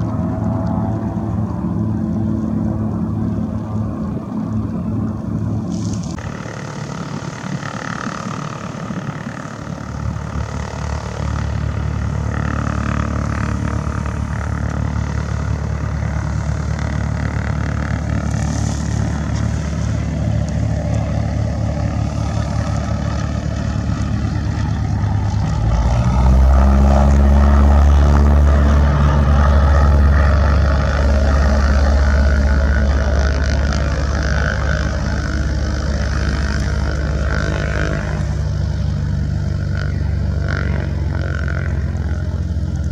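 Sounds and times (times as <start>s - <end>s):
propeller airplane engine drone: 0.0s - 42.9s.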